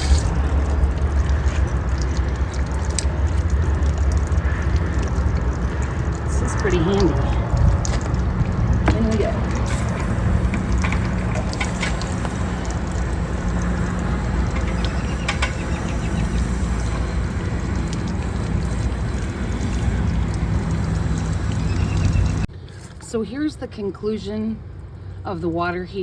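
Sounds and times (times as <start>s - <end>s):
water spraying inside tank: 0.0s - 22.5s.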